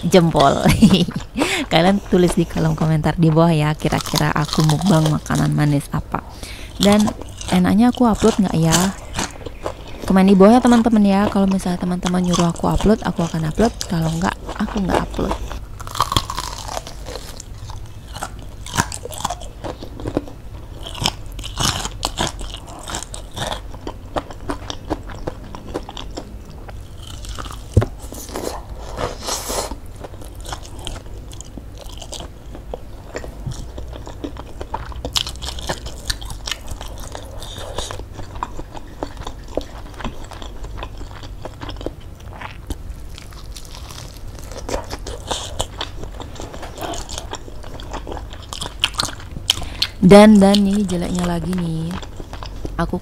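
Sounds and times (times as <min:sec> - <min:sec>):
chewing crispy fried chicken: 0:00.1 - 0:53.0.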